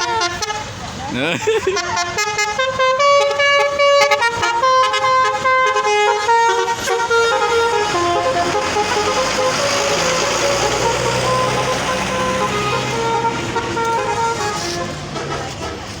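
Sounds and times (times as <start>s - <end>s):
loud rushing vehicle noise: 0.0s - 16.0s
multi-tone bus horn melody: 0.0s - 16.0s.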